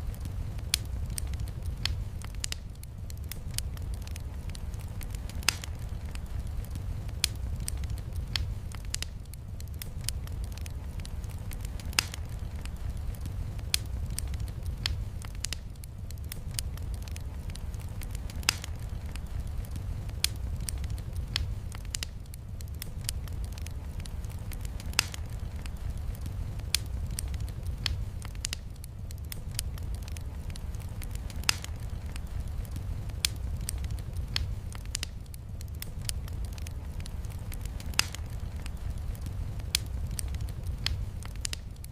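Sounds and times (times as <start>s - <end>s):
log fire crackling: 0.0s - 41.9s.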